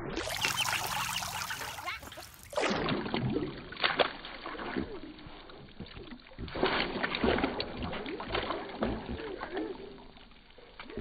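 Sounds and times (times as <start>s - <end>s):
ducks splashing in metal tub: 0.3s - 9.5s.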